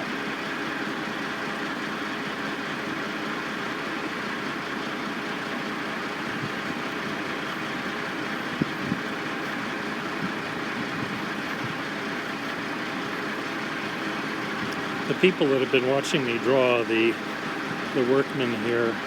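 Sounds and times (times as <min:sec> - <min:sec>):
construction machinery running: 0:00.0 - 0:19.0
truck engines running: 0:00.0 - 0:19.0.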